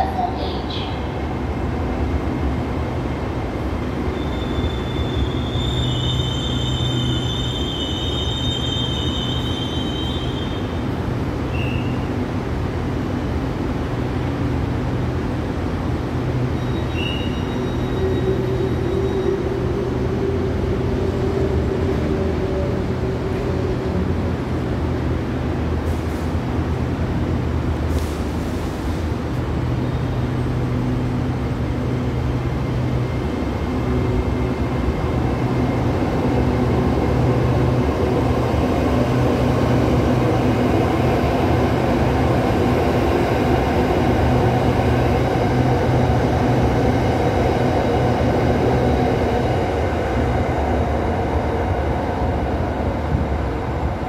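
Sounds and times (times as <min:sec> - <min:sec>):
electric train equipment hum: 0:08.2 - 0:54.0.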